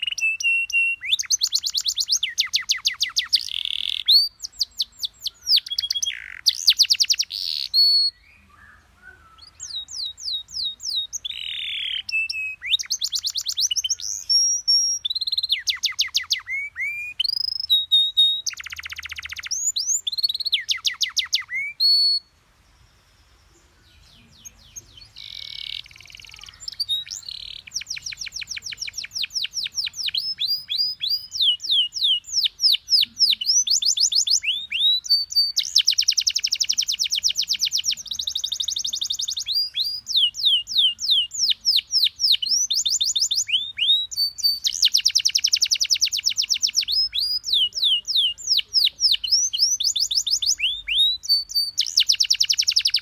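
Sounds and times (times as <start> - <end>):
canary song trills: 0.0 - 53.0.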